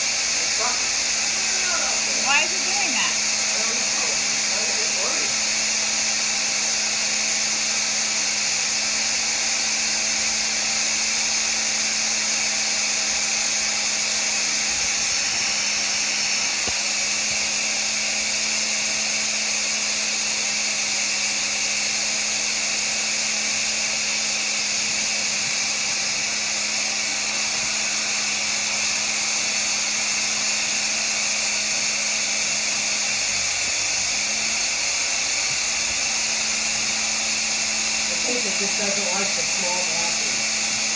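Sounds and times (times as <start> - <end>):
cleaning machine motor whining: 0.0 - 40.9.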